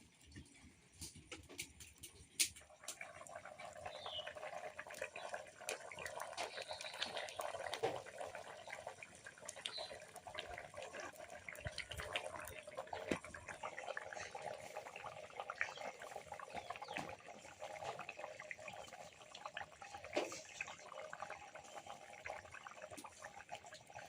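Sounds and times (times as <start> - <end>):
small irregular clicks and crackles: 0.0 - 24.0
water sloshing and bubbling: 0.0 - 24.0.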